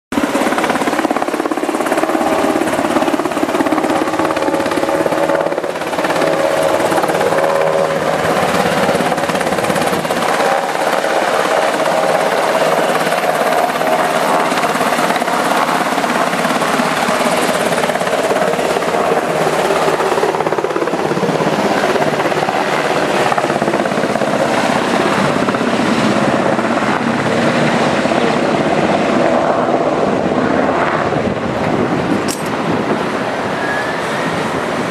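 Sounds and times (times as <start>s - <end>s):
helicopter engines and rotor: 0.1s - 34.9s.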